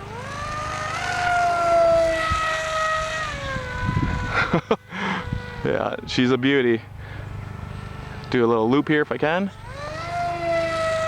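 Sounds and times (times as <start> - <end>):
electric motor and propeller whining: 0.0 - 11.0.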